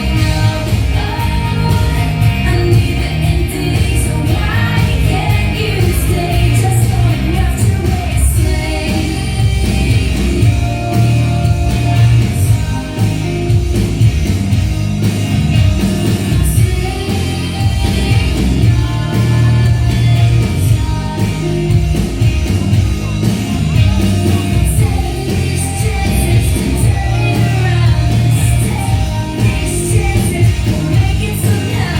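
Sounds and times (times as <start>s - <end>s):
pop-rock song with singing: 0.0s - 31.9s.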